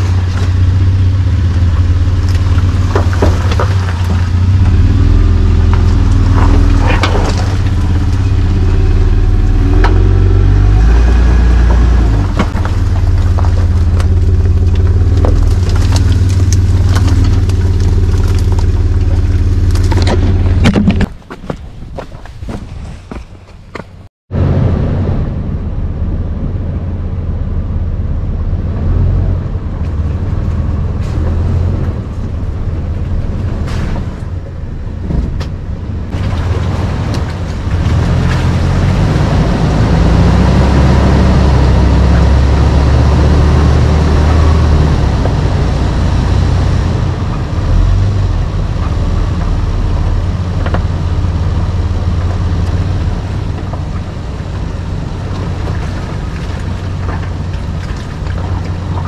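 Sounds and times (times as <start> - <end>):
engine working off-road: 0.0 - 59.0.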